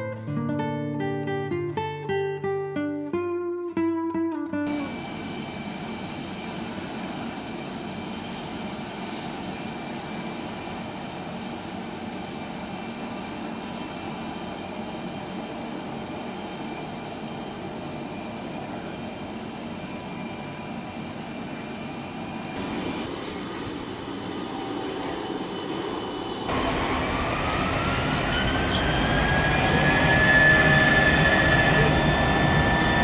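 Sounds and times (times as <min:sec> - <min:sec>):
high jet engine whine: 0:04.7 - 0:33.0
jet engine idling rumble: 0:04.7 - 0:33.0.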